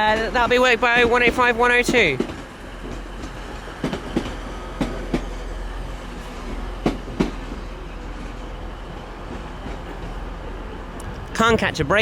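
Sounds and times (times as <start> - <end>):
train low rumble: 0.0 - 12.0
train wheels clicking over rail joints: 0.0 - 12.0.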